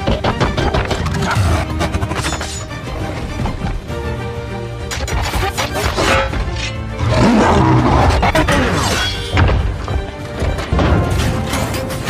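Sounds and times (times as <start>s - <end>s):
dramatic film score: 0.0s - 12.0s.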